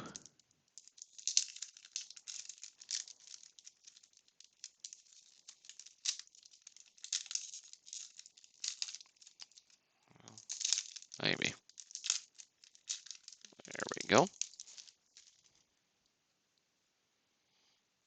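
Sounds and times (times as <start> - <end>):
wax paper wrapper crinkling: 0.0 - 15.8.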